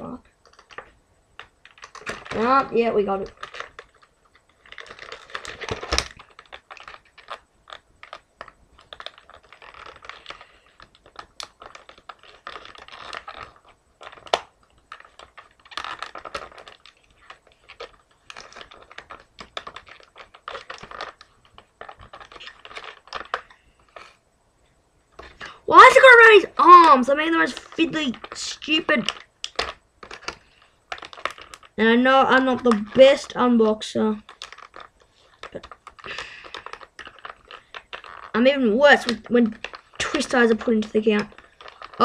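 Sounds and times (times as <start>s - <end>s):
plastic packaging rustling: 0.2s - 24.2s, 25.1s - 42.0s.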